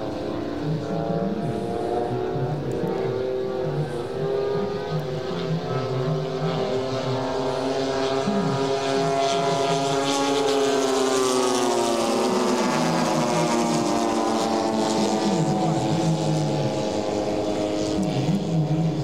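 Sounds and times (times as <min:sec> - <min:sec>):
model plane propeller engines droning: 0:00.0 - 0:19.0.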